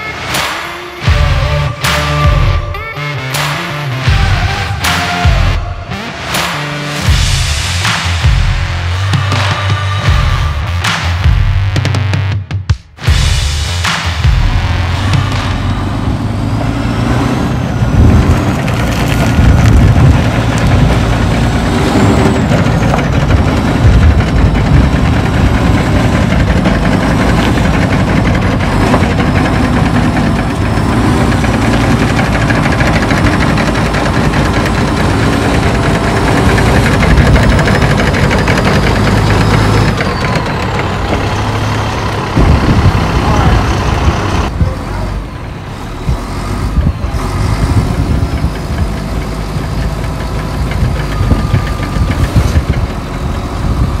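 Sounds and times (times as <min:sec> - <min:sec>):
diesel engine working under load: 0:00.0 - 0:11.8, 0:13.0 - 0:54.0.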